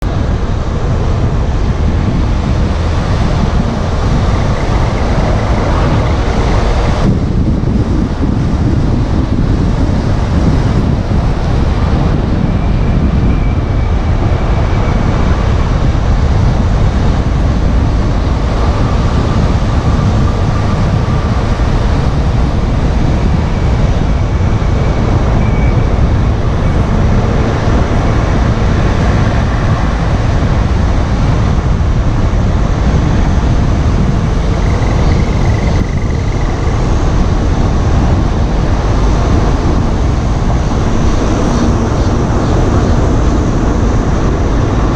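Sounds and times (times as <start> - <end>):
road noise rumble: 0.0 - 44.9.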